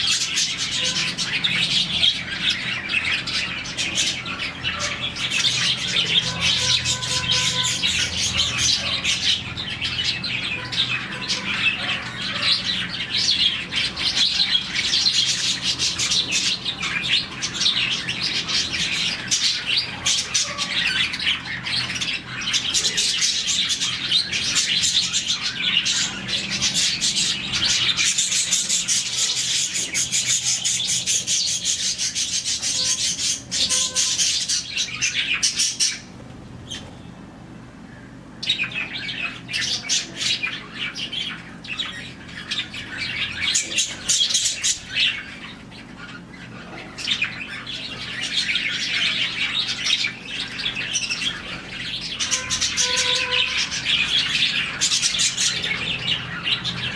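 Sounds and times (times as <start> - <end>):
budgerigars chirping: 0.0 - 37.0, 38.4 - 56.9.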